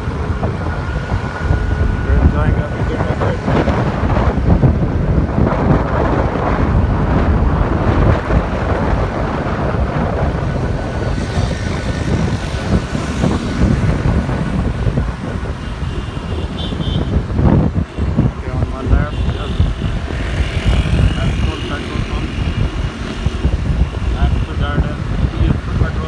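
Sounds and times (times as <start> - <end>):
motorcycle engine: 0.0 - 25.8
road traffic: 0.0 - 26.0
wind buffeting microphone: 0.0 - 26.0.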